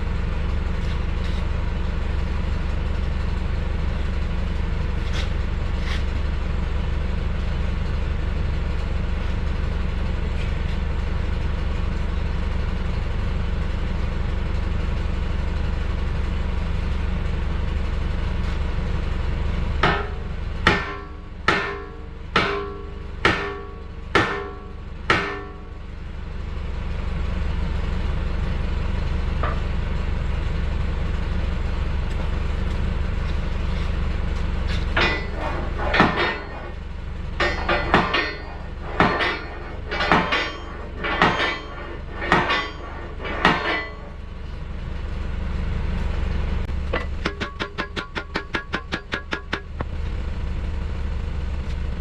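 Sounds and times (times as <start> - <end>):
low mechanical drone: 0.0 - 52.0.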